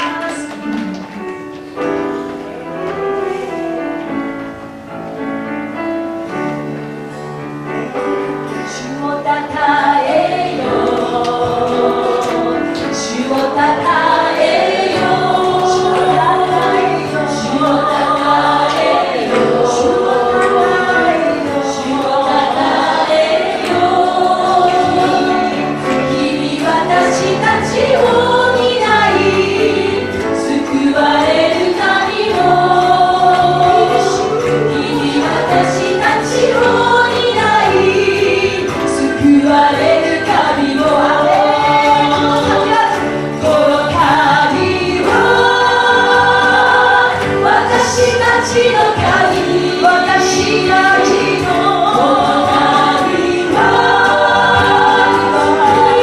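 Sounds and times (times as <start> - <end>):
women singing worship song: 0.0 - 0.9, 8.5 - 56.0
guitar: 0.0 - 56.0
piano: 0.0 - 56.0.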